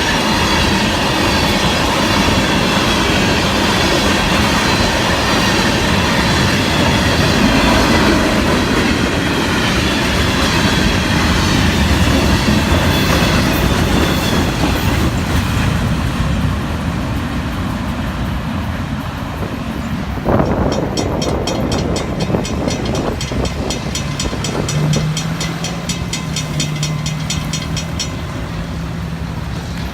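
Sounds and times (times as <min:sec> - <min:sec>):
steel wheels rumbling on rails: 0:00.0 - 0:29.9.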